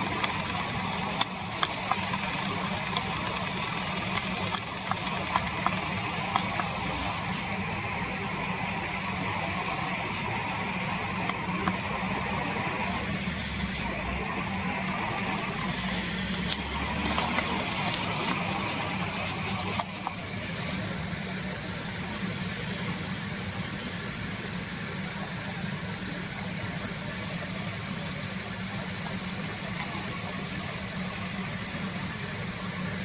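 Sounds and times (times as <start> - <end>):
car engine idling: 0.0 - 33.0
high steady buzz: 0.0 - 33.0.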